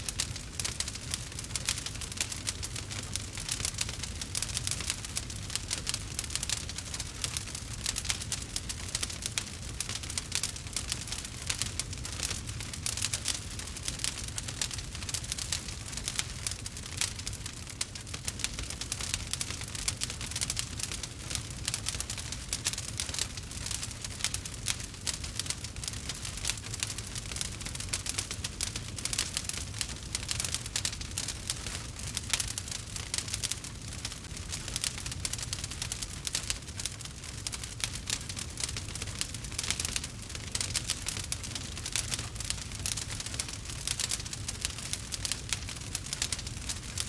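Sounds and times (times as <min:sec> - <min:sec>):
log fire crackling and popping: 0:00.0 - 0:47.0.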